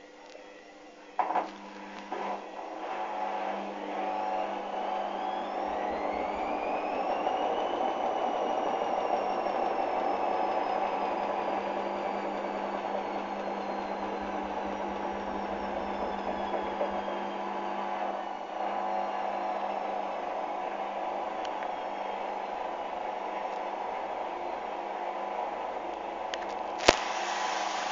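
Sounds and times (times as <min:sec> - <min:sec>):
washing machine motor whine: 0:00.0 - 0:27.9.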